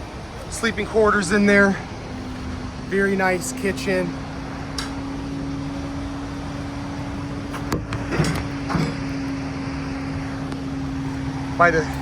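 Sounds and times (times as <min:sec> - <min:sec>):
crane engine humming: 0:00.0 - 0:12.0.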